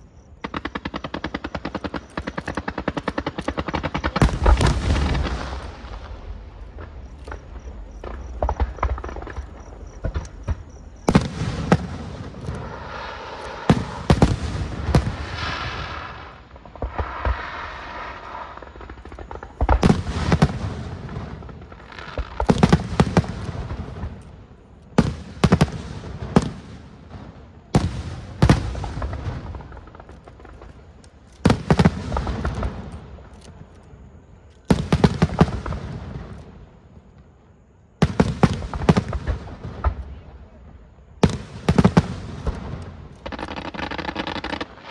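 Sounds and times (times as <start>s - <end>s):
firework bangs: 0.0s - 33.3s, 34.7s - 36.6s, 38.0s - 44.9s
fireworks crackling and fizzing: 0.0s - 33.6s, 34.6s - 36.6s, 38.0s - 40.3s, 41.2s - 44.9s.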